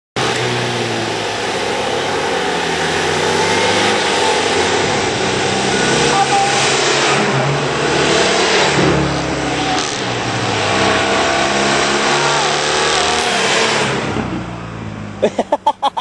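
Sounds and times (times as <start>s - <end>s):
car engine driving by: 0.2s - 15.5s.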